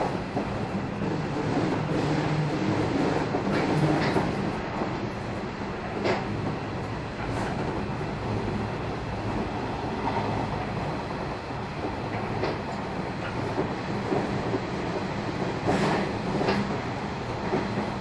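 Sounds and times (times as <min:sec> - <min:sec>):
rail joint clicks: 0:00.0 - 0:18.0
wheels rumbling on rail: 0:00.0 - 0:18.0.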